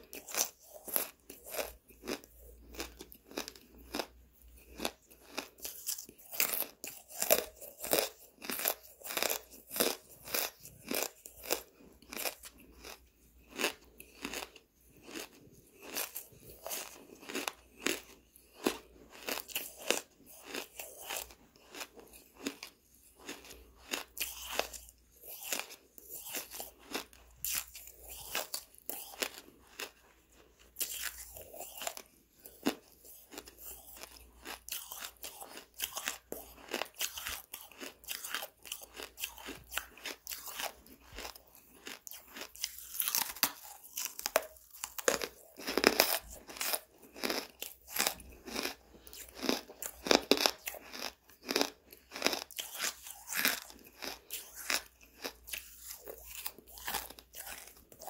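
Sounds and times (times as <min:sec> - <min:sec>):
crisp crunching while chewing: 0:00.0 - 0:58.0.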